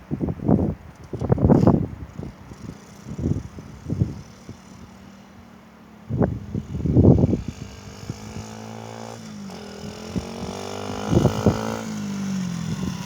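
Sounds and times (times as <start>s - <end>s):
wind gusts on microphone: 0.0s - 13.0s
small motorcycle engine running: 1.0s - 13.0s.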